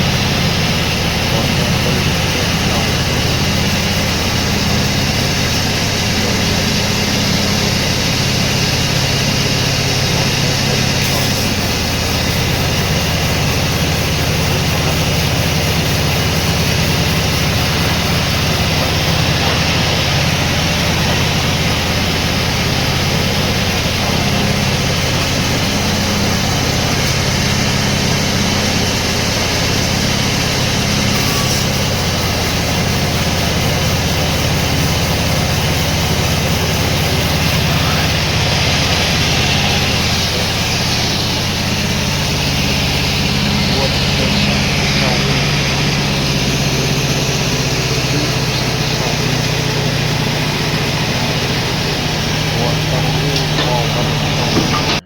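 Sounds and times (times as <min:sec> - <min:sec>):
heavy machinery engine droning: 0:00.0 - 0:55.0.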